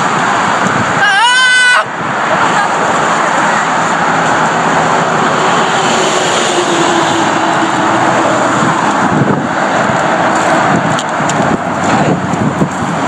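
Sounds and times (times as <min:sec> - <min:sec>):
vehicle rushing past: 0:01.8 - 0:13.0.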